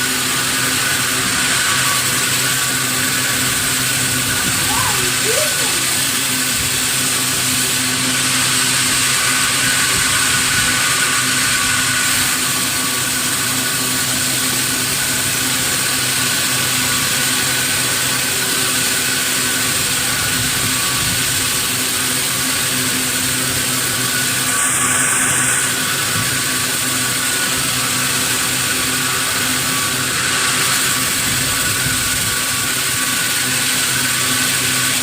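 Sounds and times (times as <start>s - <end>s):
sawmill machinery whining: 0.0s - 35.0s.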